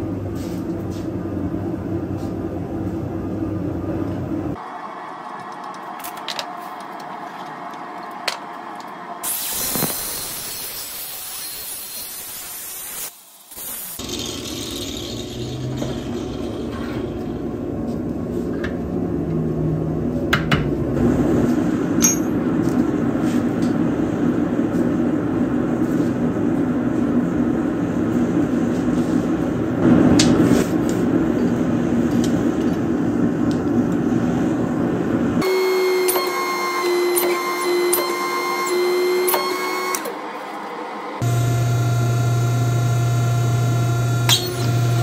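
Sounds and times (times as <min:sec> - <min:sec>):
forge burner roaring: 0:00.0 - 0:45.0.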